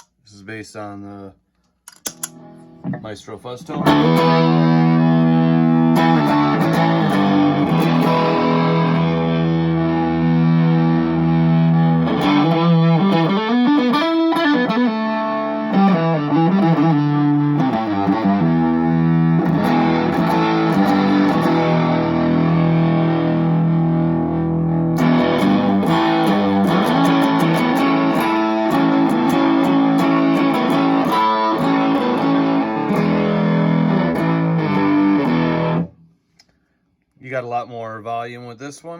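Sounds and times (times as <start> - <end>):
fuzzed electric guitar chords: 2.1 - 3.1, 3.7 - 36.0.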